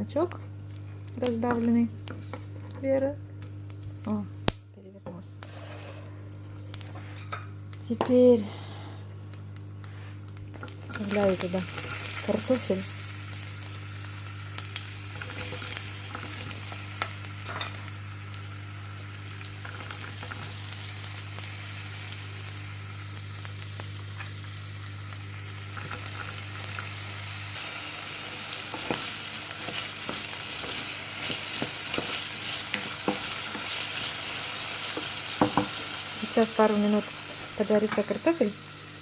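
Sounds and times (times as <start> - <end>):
potatoes sizzling in oil: 5.4 - 39.0.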